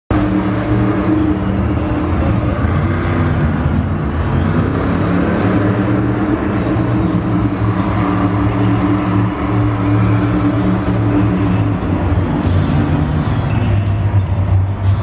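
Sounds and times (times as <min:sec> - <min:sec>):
truck engine running loudly: 0:00.1 - 0:15.0.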